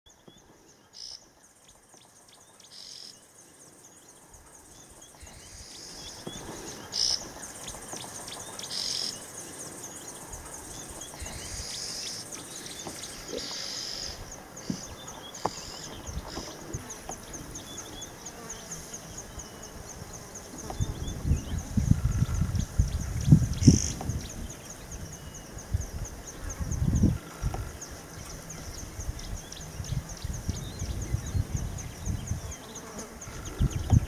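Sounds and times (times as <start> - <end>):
bird calls: 0.1 - 34.0
insects chirping: 0.1 - 34.0.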